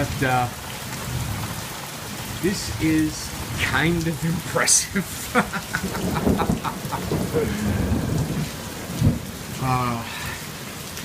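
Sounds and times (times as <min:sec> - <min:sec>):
low rumble of thunder: 0:00.0 - 0:04.5, 0:05.4 - 0:10.2
heavy rain pouring: 0:00.0 - 0:11.0
raindrops splatting on surfaces: 0:00.0 - 0:11.0.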